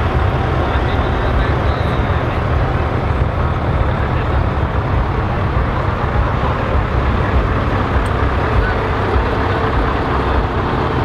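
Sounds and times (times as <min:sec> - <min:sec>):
truck engine running steadily: 0:00.0 - 0:11.0.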